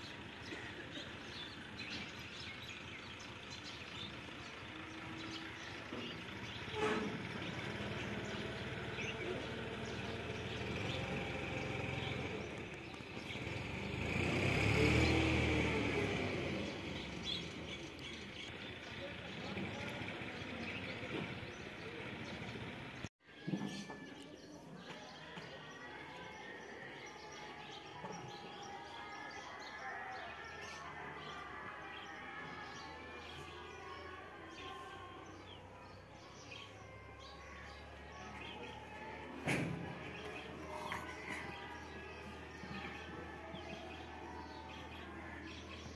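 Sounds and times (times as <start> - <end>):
motor vehicle passing by: 0.0 - 23.1, 29.9 - 45.9
small birds chirping: 0.0 - 45.9.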